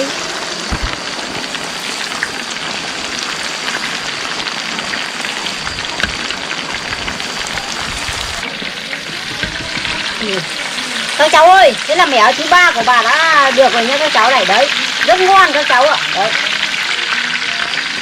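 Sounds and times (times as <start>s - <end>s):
chicken frying in hot oil: 0.0s - 18.0s.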